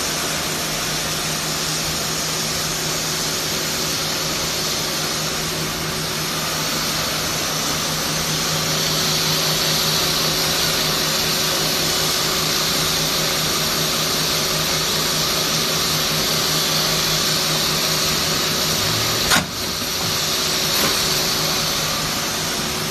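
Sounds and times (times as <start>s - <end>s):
machinery hiss and hum: 0.0s - 22.9s.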